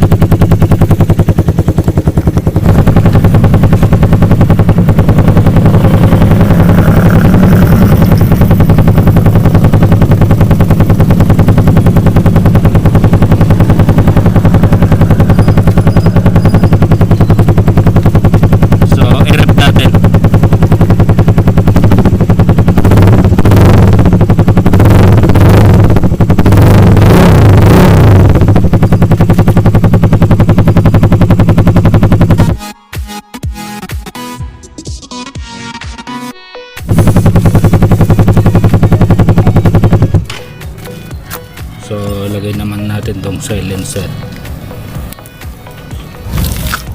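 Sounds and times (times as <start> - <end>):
motorcycle exhaust idling and blipping: 0.0 - 34.0, 36.7 - 46.9.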